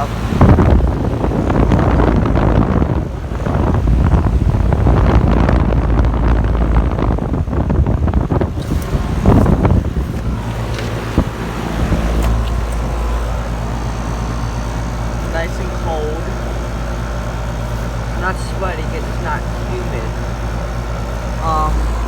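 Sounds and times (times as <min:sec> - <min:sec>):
compressor and fan hum: 0:00.0 - 0:22.0
wind buffeting microphone: 0:00.0 - 0:22.0.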